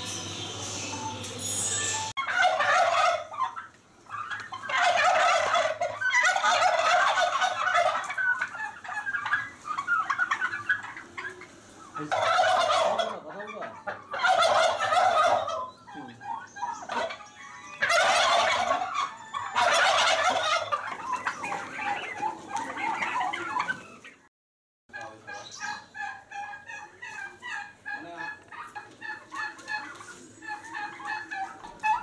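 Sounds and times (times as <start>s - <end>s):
turkeys gobbling: 2.1s - 24.3s, 24.9s - 32.0s.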